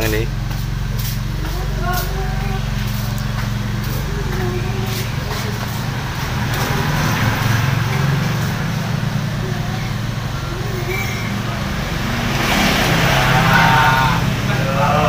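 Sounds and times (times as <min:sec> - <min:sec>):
passing traffic rush: 0:00.0 - 0:15.0
vehicle engine humming: 0:00.0 - 0:15.0.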